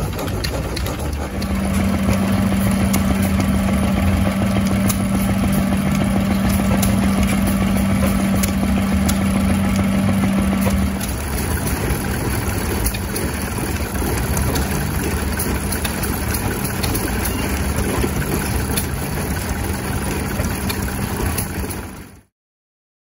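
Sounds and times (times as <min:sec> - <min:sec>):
engine running steadily: 0:00.0 - 0:22.3.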